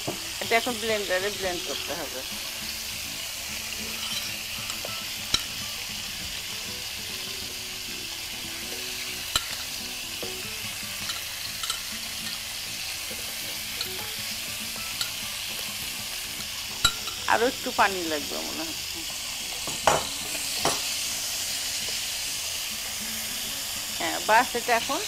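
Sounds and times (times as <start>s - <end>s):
chicken frying in hot oil: 0.0s - 25.0s.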